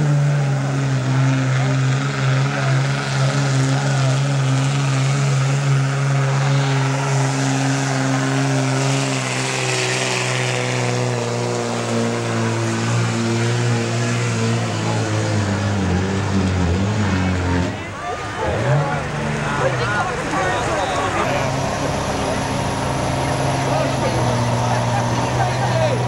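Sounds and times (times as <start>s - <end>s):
diesel truck engine at high revs: 0.0s - 26.0s.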